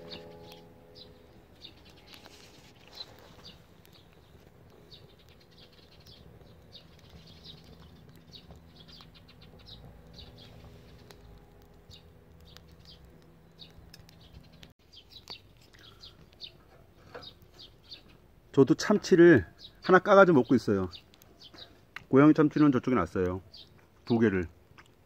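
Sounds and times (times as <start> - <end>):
small birds chirping: 0.0 - 25.0
wood fire crackling: 0.0 - 25.0.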